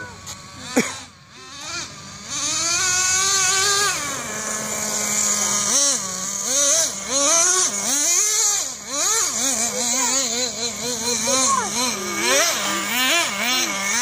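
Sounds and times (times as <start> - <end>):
nitro engine revving: 0.0 - 14.0.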